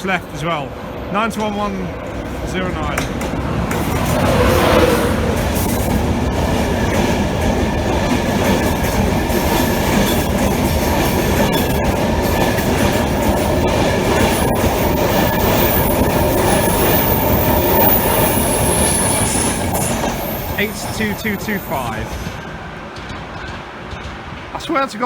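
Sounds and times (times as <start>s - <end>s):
train wheel-and-rail noise: 0.0s - 25.0s.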